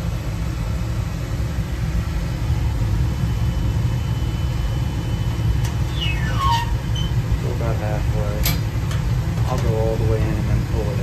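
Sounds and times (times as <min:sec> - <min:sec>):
oil burner running: 0:00.0 - 0:11.0.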